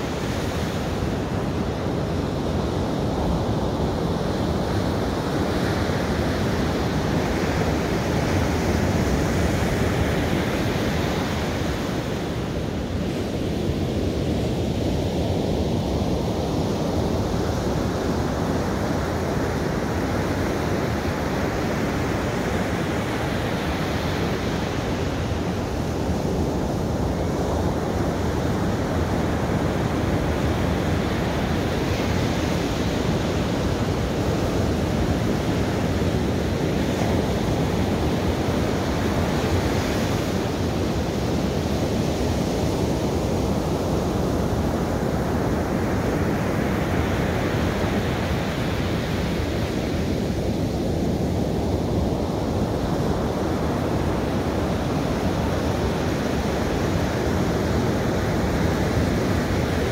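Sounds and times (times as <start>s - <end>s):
ocean waves on sandy beach: 0.0s - 59.9s.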